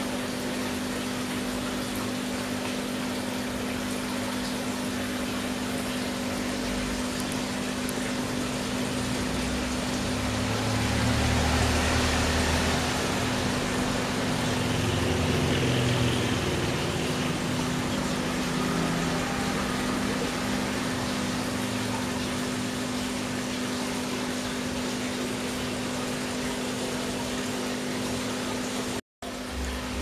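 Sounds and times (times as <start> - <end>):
aquarium water pump humming: 0.0 - 30.0
water running and splashing: 0.0 - 30.0.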